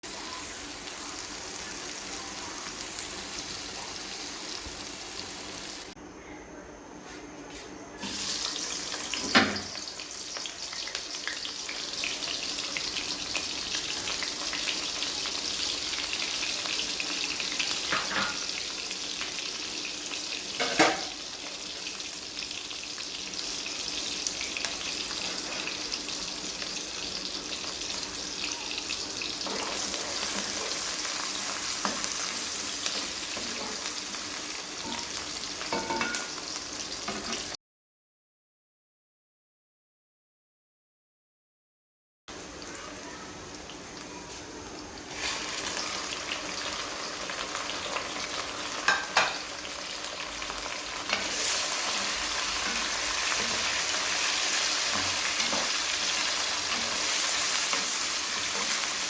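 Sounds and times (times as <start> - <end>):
food sizzling in hot oil: 0.0 - 6.0, 8.0 - 37.6, 42.3 - 59.0.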